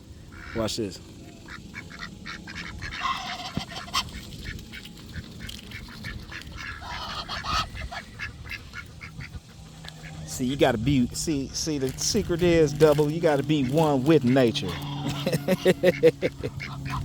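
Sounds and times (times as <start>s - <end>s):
ducks calling: 0.0s - 17.0s.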